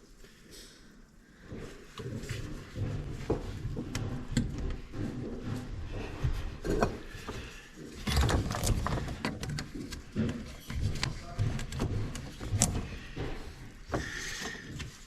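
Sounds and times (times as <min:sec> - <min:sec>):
tools and parts knocking: 0:01.9 - 0:15.0.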